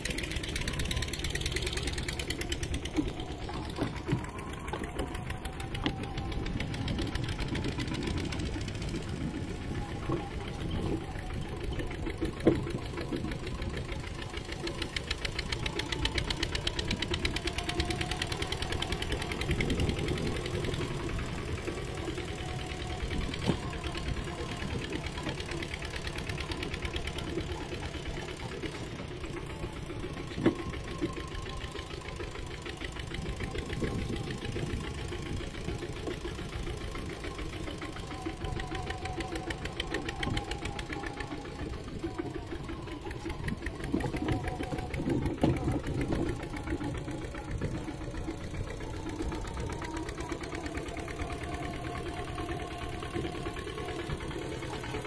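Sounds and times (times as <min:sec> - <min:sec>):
mini tractor engine running: 0:00.0 - 0:55.0.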